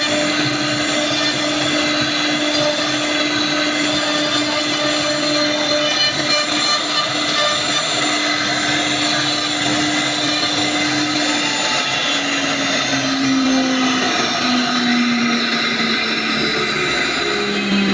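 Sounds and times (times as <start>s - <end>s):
wood router running: 0.0s - 17.9s.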